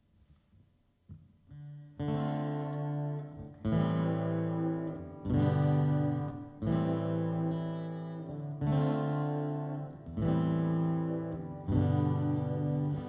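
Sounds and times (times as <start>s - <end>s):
acoustic guitar strumming chords: 1.5s - 13.0s.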